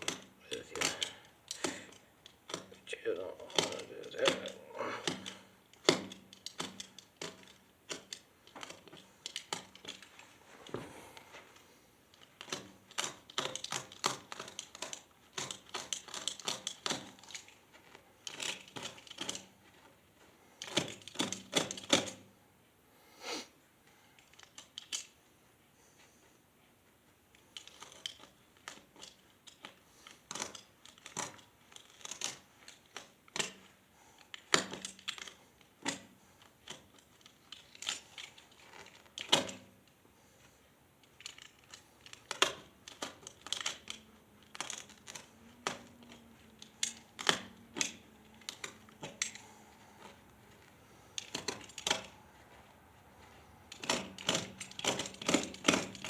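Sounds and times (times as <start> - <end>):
hand tools clicking and clinking: 0.0 - 10.8, 12.1 - 19.6, 27.4 - 39.8, 41.0 - 56.0.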